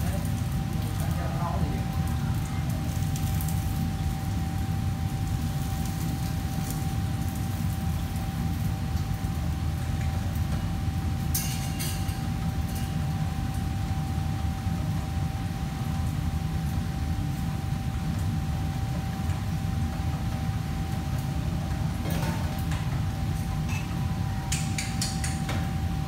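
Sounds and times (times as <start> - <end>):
constant high whine: 0.0 - 26.0
low hum of kitchen fans: 0.0 - 26.0.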